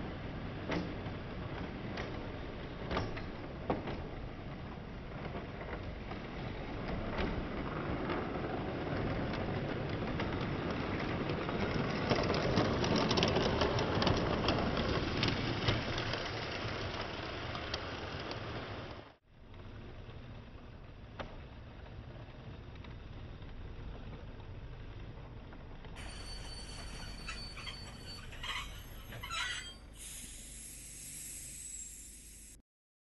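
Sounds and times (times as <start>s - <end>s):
model train running on track: 0.0s - 32.5s.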